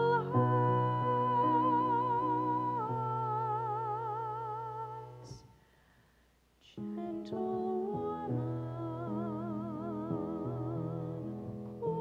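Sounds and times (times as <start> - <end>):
piano accompaniment: 0.0 - 5.4, 6.8 - 12.0
soprano voice singing with vibrato: 0.0 - 5.6, 6.6 - 12.0.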